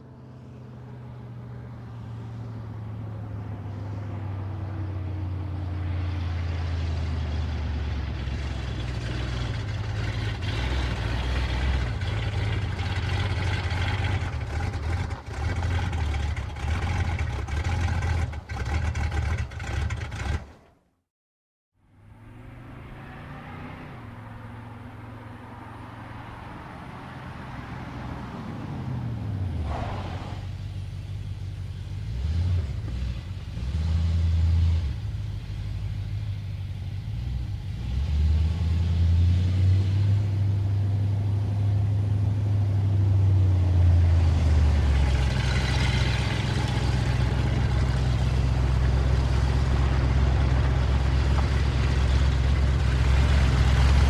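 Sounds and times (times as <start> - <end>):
car engine revving: 0.0 - 20.6, 21.9 - 54.0.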